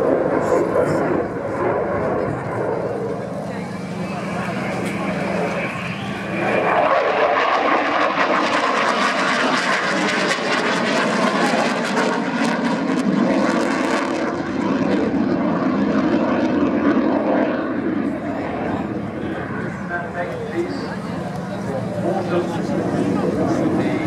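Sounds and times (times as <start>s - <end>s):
jet engine roar in flight: 0.0s - 24.0s.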